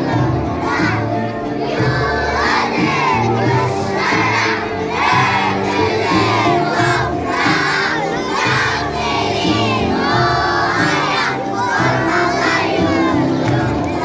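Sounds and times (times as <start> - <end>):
backing music: 0.0 - 14.0
children singing together: 0.0 - 14.0.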